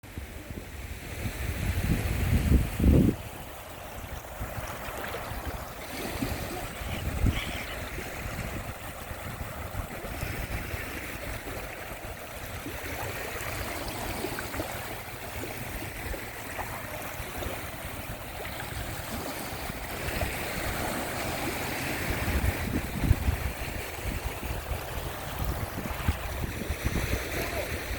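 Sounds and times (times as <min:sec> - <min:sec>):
sea waves washing onto sand: 0:00.1 - 0:27.9.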